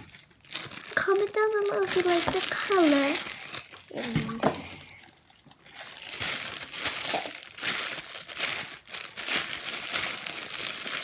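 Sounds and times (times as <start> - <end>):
slime squelching: 0.0 - 11.0.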